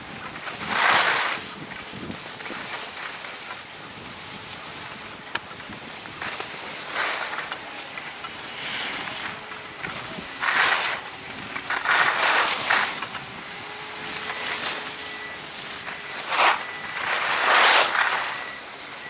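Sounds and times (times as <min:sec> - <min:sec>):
wind noise on microphone: 0:00.0 - 0:07.1, 0:08.6 - 0:18.1
skis scraping on snow: 0:00.0 - 0:19.0.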